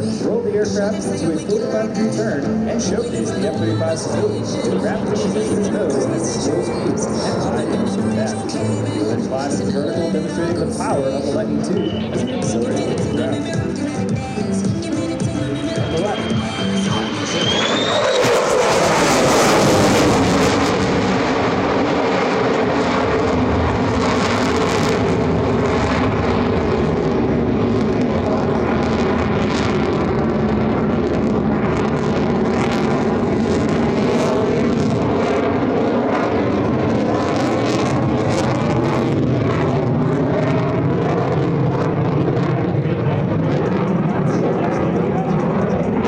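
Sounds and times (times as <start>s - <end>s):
jet engine afterburner roar: 0.0s - 46.0s.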